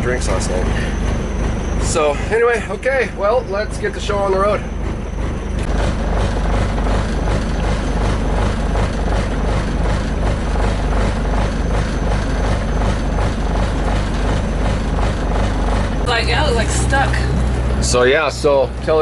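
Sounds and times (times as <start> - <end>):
boat engine pulsing thrum: 0.0 - 19.0.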